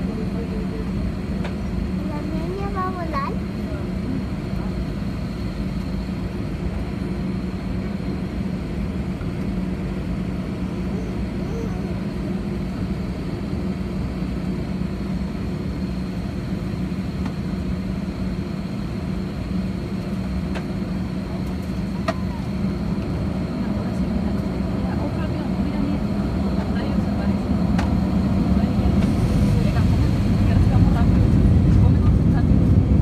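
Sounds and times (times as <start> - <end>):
airplane cabin low hum: 0.0 - 33.0
jet engine high whine: 0.0 - 33.0.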